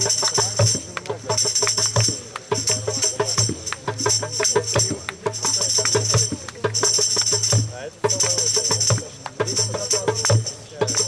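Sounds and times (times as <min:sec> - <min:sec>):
low drum beat: 0:00.0 - 0:11.0
tambourine jingling: 0:00.0 - 0:11.0.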